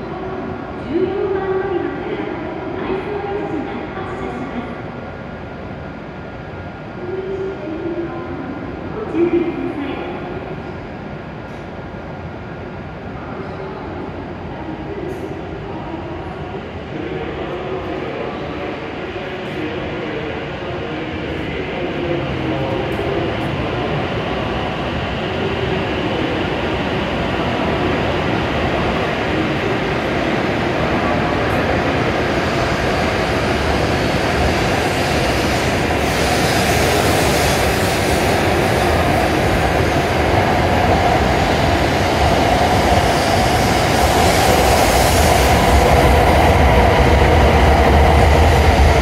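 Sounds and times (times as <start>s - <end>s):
train hum: 0.0s - 49.0s.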